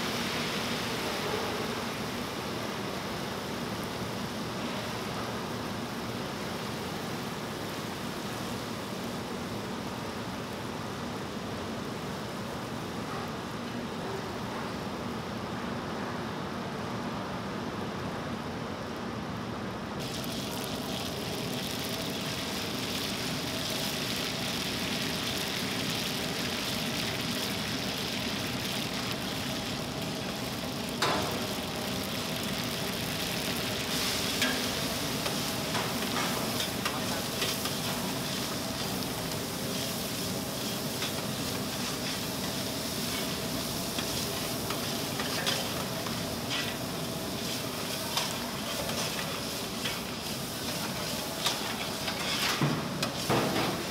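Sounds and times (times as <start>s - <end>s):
hot oil sizzling: 0.0s - 12.9s, 20.0s - 53.9s.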